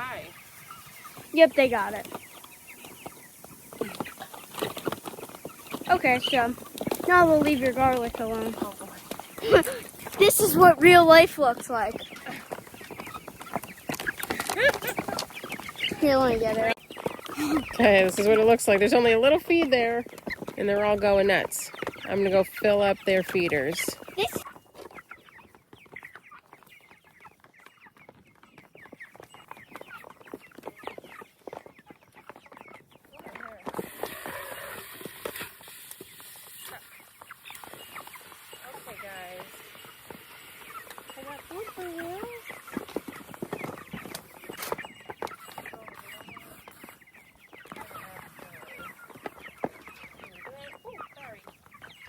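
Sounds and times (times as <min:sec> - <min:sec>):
chickens cheeping and clucking: 0:00.0 - 0:52.0.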